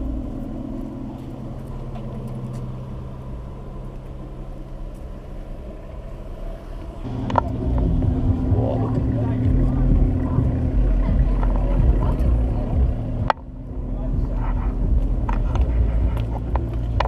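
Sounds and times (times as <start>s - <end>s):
car engines in slow traffic: 0.0s - 17.0s.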